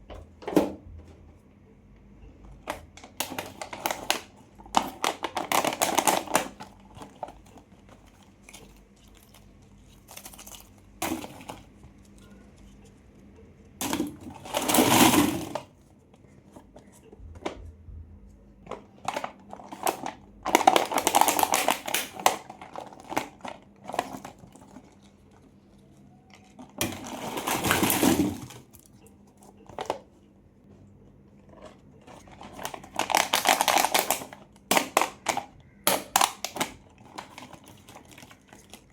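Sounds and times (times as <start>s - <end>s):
candy wrappers crinkling: 2.6s - 17.2s, 18.7s - 30.2s, 31.1s - 38.9s.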